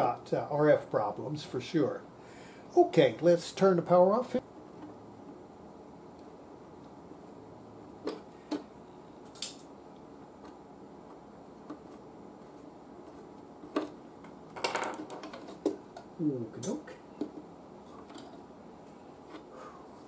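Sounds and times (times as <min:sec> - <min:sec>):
steady low background noise: 0:00.0 - 0:20.0.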